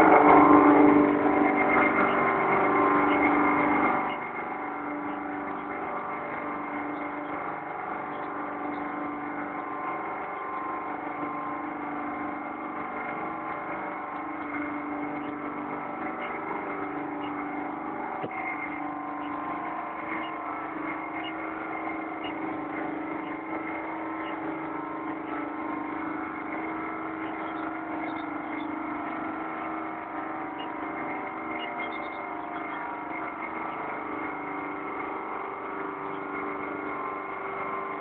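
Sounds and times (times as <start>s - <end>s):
machinery humming: 0.0s - 38.0s
leak detector ticking: 1.4s - 38.0s.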